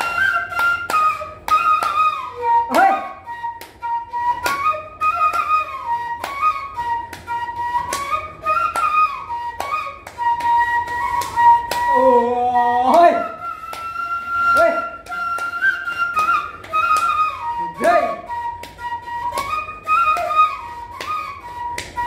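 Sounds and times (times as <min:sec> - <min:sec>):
bamboo flute melody: 0:00.0 - 0:22.0.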